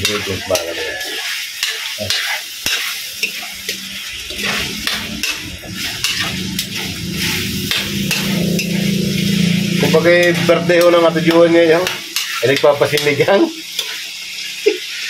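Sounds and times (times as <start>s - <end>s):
meat sizzling in hot oil: 0.0s - 9.7s, 11.7s - 15.0s
metal spatula scraping a wok: 0.0s - 14.2s.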